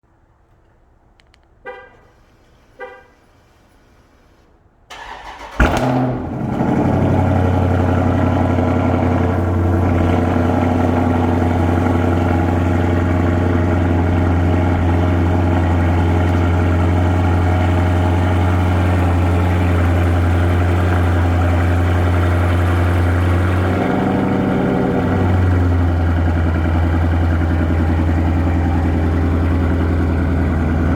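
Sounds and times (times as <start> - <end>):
car engine starting and idling: 0.4 - 30.9.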